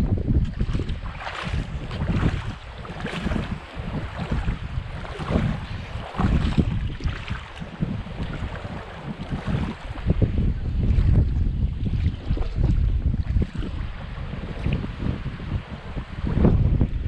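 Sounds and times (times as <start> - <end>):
waves washing against shore: 0.0 - 17.0
wind buffeting microphone: 0.0 - 17.0.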